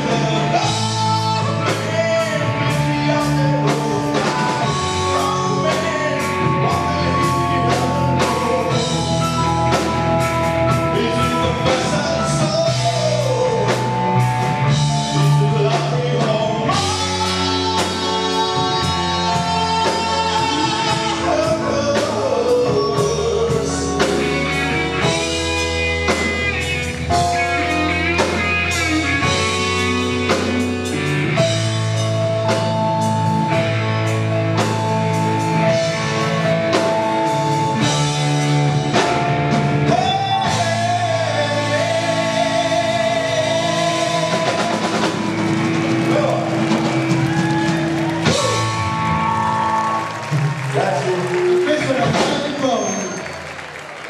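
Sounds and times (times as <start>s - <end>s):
man singing: 0.0s - 49.6s, 50.7s - 53.2s
drum kit: 0.0s - 54.0s
electric guitar: 0.0s - 54.0s.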